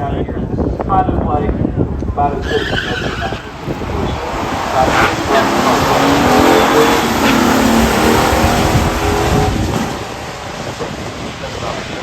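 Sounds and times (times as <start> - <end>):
cars racing at high revs: 1.8 - 12.0.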